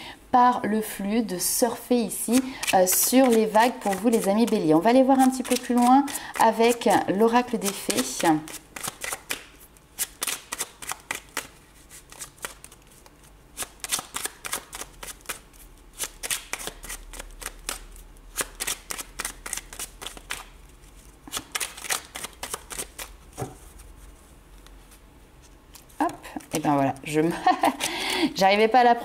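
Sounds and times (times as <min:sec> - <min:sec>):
cards being shuffled by hand: 0:02.2 - 0:28.0.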